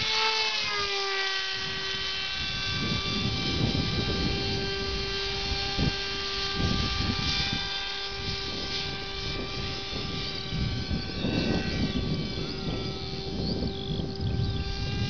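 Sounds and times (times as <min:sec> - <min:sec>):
electric motor and propeller whining: 0:00.0 - 0:15.0
wind buffeting microphone: 0:00.0 - 0:15.0.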